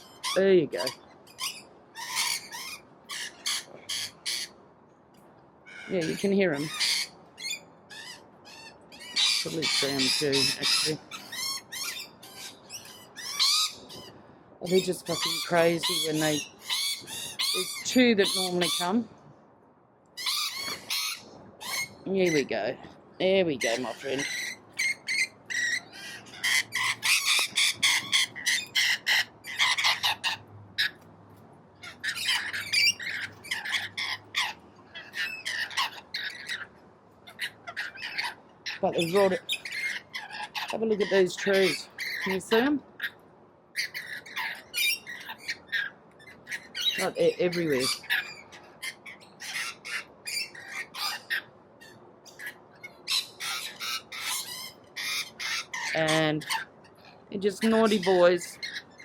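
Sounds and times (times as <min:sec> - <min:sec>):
lorikeets screeching: 0:00.0 - 0:04.6, 0:05.6 - 0:19.1, 0:20.2 - 0:31.0, 0:31.8 - 0:59.0.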